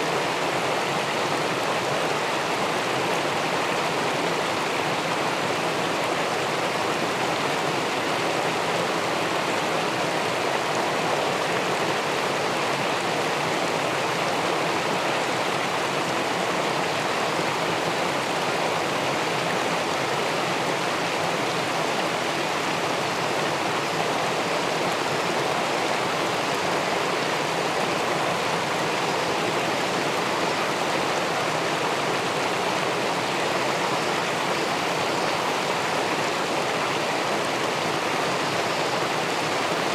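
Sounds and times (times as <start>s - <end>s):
river water pouring over a weir: 0.0s - 39.9s.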